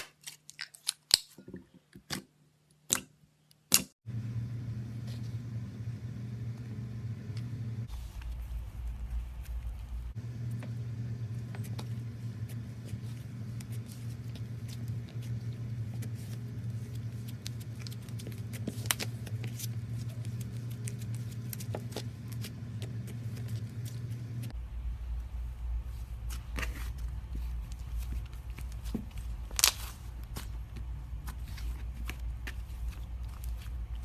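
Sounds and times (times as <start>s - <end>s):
steady low hum: 4.0s - 34.0s.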